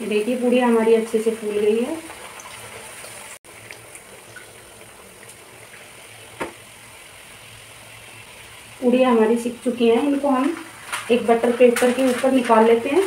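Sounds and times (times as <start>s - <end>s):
puris sizzling in hot oil: 0.0s - 13.0s.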